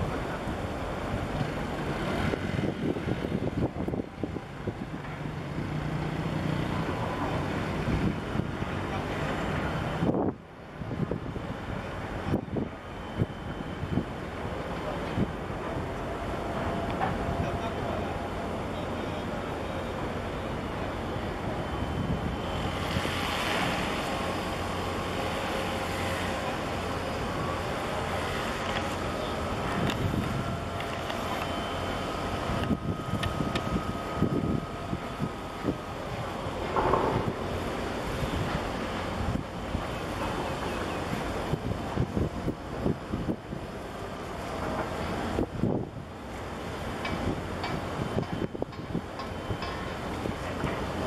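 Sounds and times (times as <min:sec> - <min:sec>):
wind buffeting microphone: 0:00.0 - 0:18.6, 0:21.2 - 0:51.0
steady engine drone: 0:00.0 - 0:51.0
steady low hum: 0:00.0 - 0:51.0.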